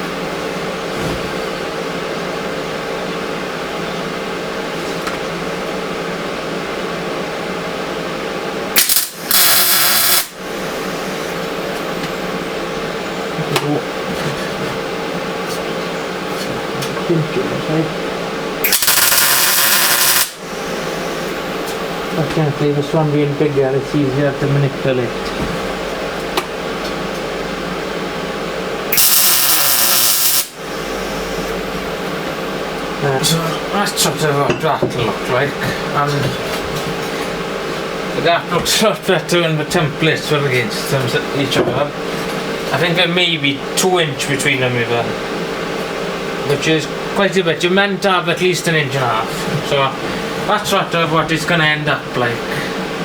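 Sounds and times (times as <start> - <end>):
workshop machine hum: 0.0 - 53.0.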